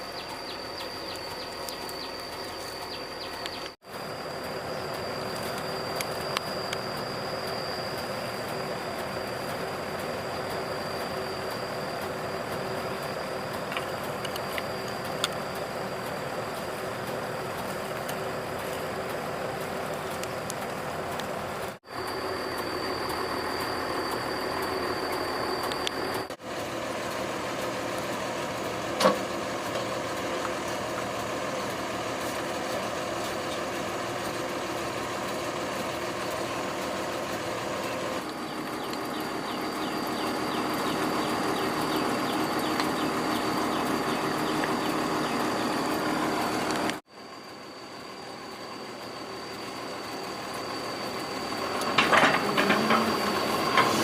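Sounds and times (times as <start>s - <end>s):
excavator diesel engine: 0.0s - 54.0s
thin high whine: 0.0s - 54.0s.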